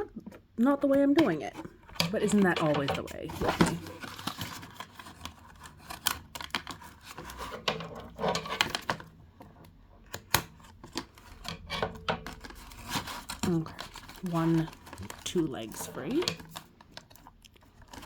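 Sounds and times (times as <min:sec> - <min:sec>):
packaging clicks and rustles: 0:00.9 - 0:18.0.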